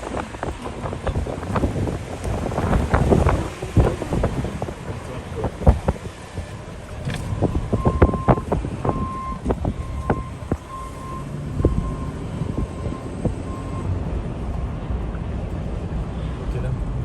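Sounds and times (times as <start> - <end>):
vehicle warning beeps: 0.0 - 14.1
low vehicle rumble: 0.0 - 17.0
sharp clicks and knocks: 0.0 - 17.0.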